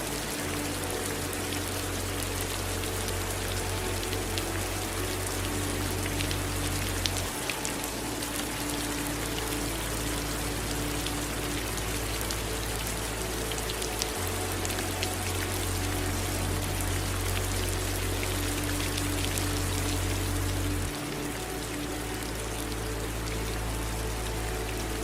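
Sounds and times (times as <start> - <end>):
low steady rumble: 0.0 - 25.0
rain drops pattering: 0.0 - 25.0.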